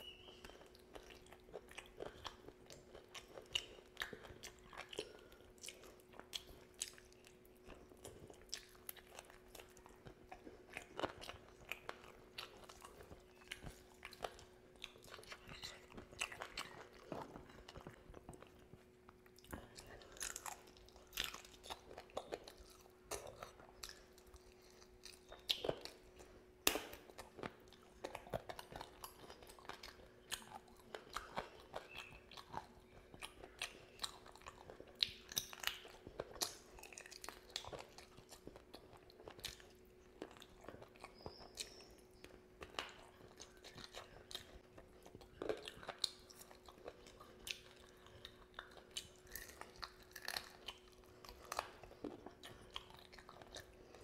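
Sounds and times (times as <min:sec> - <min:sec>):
faint steady hum: 0:00.0 - 0:54.0
person chewing close-up: 0:00.0 - 0:54.0.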